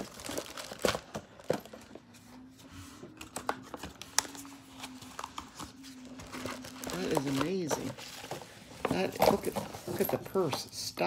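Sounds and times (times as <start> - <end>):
packaging rustling and crinkling: 0.0 - 2.1, 3.2 - 10.5.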